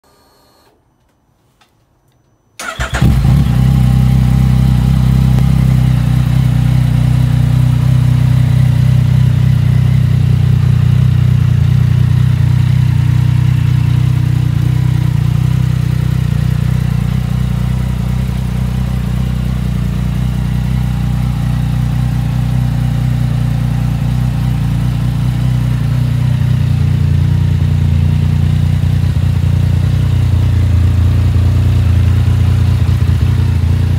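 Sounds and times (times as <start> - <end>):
motorcycle engine starting and idling: 2.6 - 33.9.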